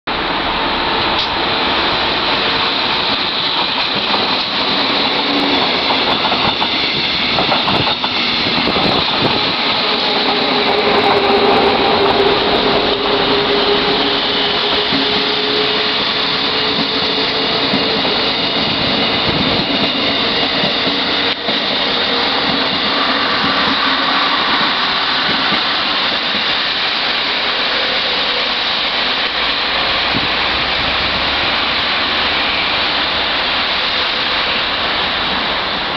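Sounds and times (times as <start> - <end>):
diesel train rolling past: 0.1 - 35.9
electric locomotive departing: 0.1 - 35.9
train wheels on rails: 0.1 - 35.9.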